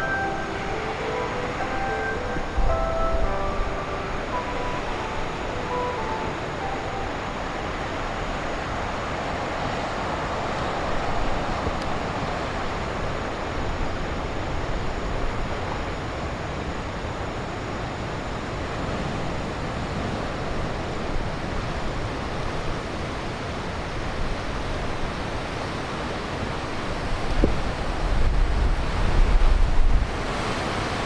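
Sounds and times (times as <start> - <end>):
wind: 0.0 - 31.0.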